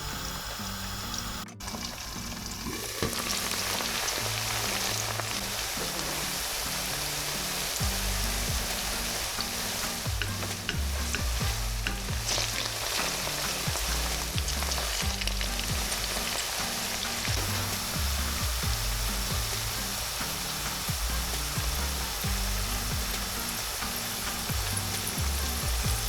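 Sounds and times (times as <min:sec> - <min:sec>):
food sizzling in a pan: 0:00.0 - 0:26.0
small crackles: 0:00.0 - 0:26.0.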